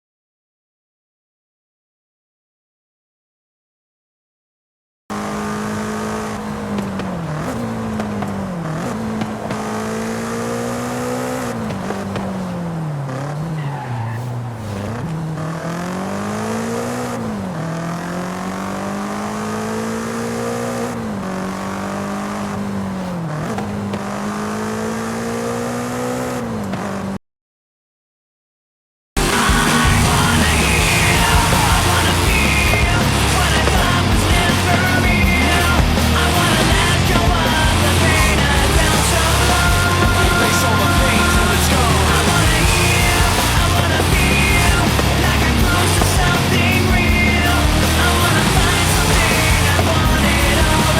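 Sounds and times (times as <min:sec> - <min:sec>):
car engine revving under load: 0:05.1 - 0:27.2, 0:29.2 - 0:50.9.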